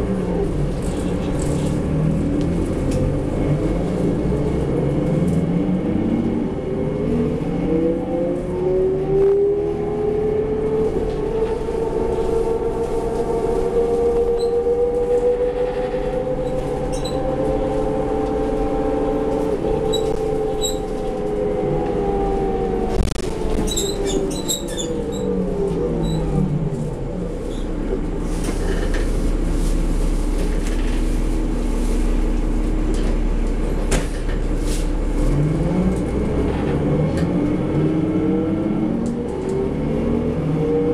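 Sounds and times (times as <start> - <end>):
bus drivetrain whine: 0.0 - 40.9.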